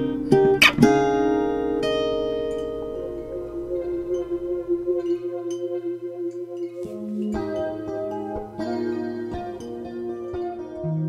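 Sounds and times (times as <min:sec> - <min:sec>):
guitar plucked notes and chords: 0:00.0 - 0:11.0.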